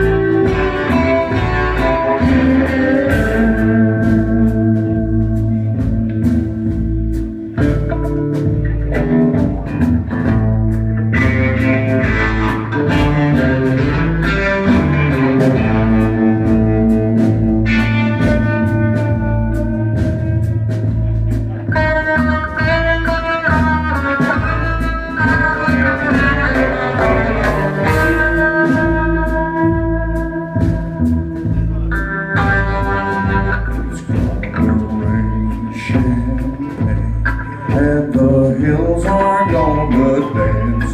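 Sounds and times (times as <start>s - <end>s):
live band playing: 0.0s - 40.9s.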